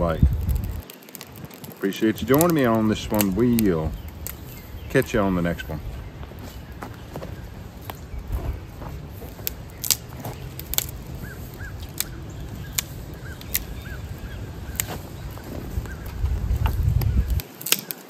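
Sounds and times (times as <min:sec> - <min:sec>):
wind rumbling on microphone: 0:00.0 - 0:17.5
bird chirping: 0:00.0 - 0:18.0
wood fire crackling and popping: 0:00.0 - 0:18.0.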